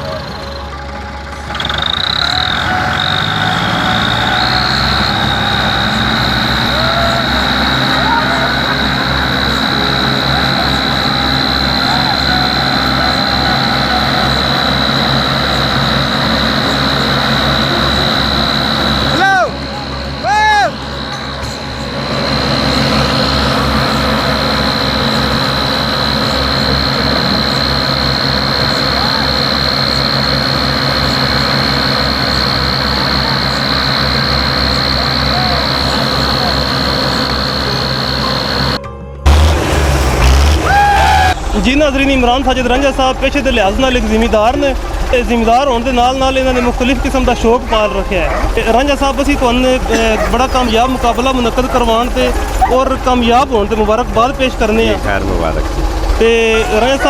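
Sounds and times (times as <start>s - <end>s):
high-pitched whine: 0.0s - 57.0s
tractor engine running under load: 0.0s - 57.0s.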